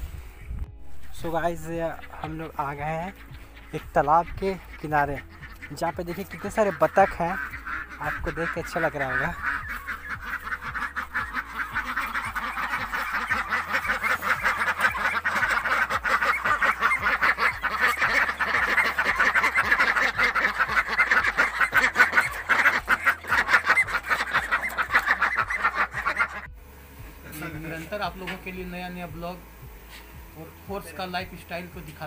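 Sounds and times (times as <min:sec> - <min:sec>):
ducks quacking: 0:00.9 - 0:32.0.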